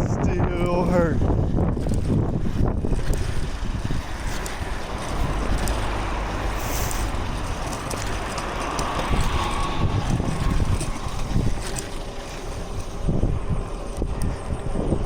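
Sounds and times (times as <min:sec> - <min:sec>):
wheels rolling on pavement: 0:00.0 - 0:15.0
wind buffeting microphone: 0:00.0 - 0:15.0.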